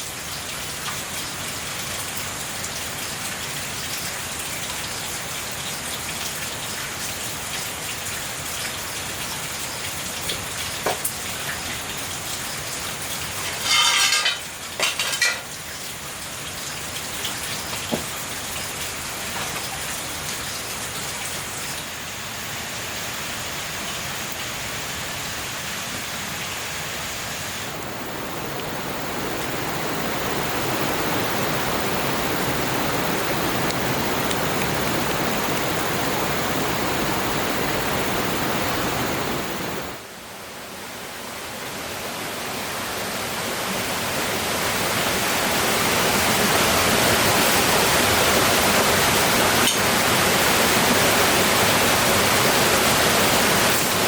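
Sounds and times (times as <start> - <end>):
rushing hiss of heavy rain: 0.0 - 54.0.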